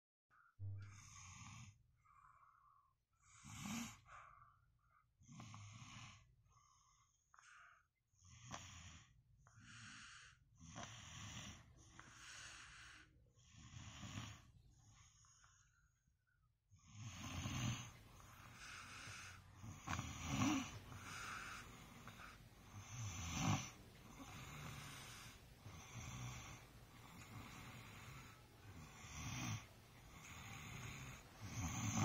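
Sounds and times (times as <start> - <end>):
faint snoring: 0.4 - 16.1, 16.7 - 32.0.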